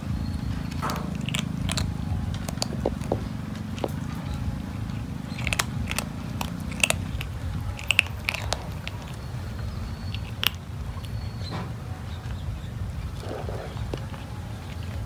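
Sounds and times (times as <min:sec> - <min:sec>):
kitten chewing clicks: 0:00.0 - 0:15.0.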